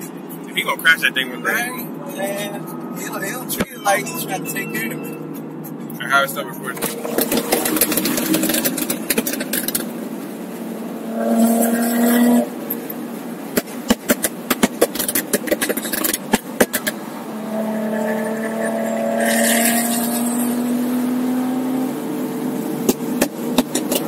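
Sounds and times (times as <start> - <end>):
car engine drone: 0.0 - 24.0
road noise: 0.0 - 24.0.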